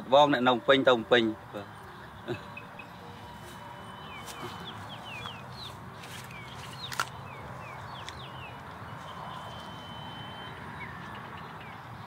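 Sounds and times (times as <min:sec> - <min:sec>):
small birds chirping: 0:01.2 - 0:12.0.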